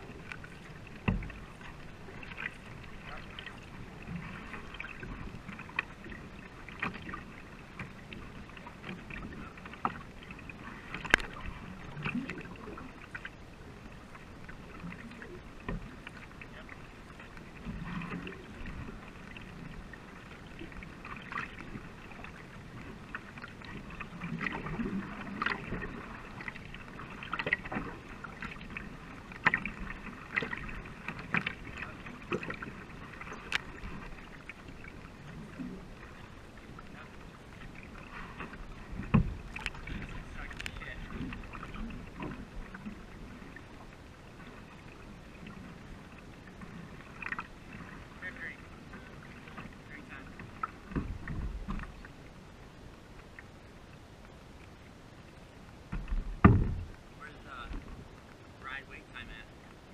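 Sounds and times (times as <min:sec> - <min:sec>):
canoe paddles splashing: 0:00.0 - 0:59.9
water washing along hull: 0:00.0 - 0:59.9.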